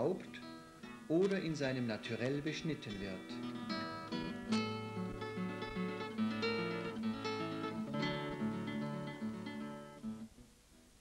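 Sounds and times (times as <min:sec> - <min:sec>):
plucked acoustic guitar music: 0:00.0 - 0:10.4.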